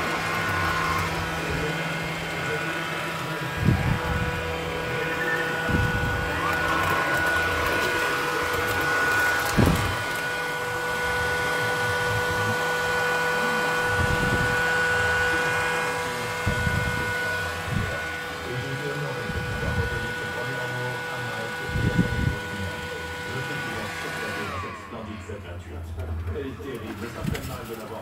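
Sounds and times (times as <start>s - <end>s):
robot vacuum motor whine: 0.0s - 28.0s.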